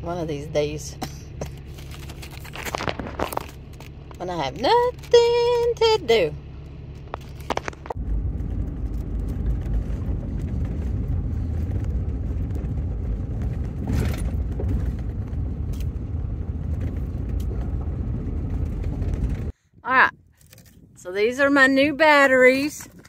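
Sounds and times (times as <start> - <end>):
engine and tyres rumbling on gravel: 0.0 - 23.0.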